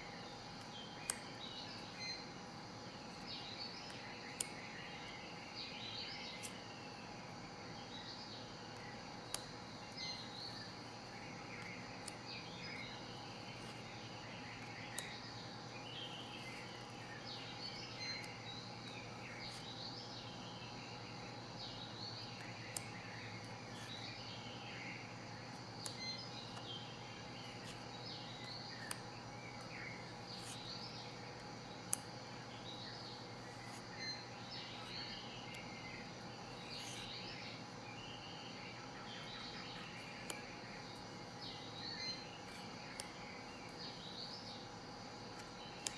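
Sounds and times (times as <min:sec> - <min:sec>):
birds twittering and chirping: 0:00.0 - 0:45.9.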